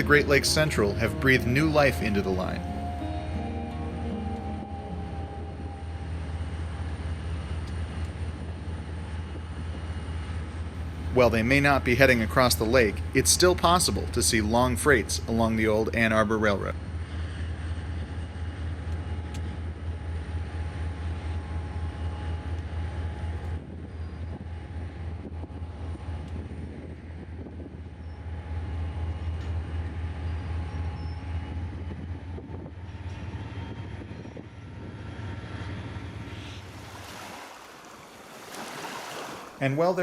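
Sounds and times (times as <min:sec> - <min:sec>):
diesel train engine rumble: 0:00.0 - 0:40.0
rail noise: 0:00.0 - 0:40.0.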